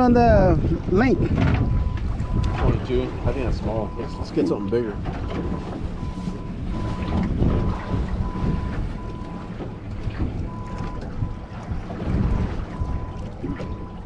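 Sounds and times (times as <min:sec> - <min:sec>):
water sloshing on boat hull: 0:00.0 - 0:14.0
wind buffeting microphone: 0:00.0 - 0:14.0.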